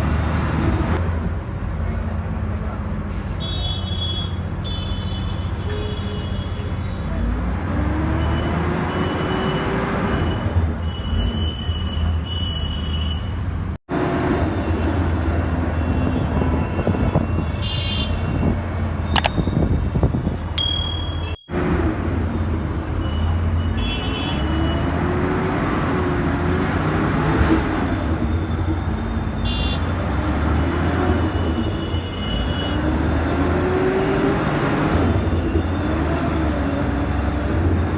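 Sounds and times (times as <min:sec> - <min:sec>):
road and traffic noise: 0:00.0 - 0:37.9.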